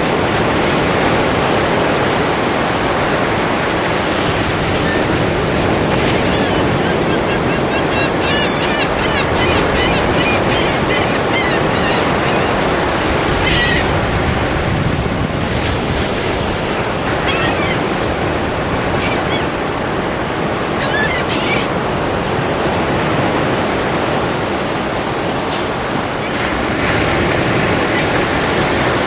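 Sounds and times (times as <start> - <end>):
ocean surf rushing: 0.0 - 29.0.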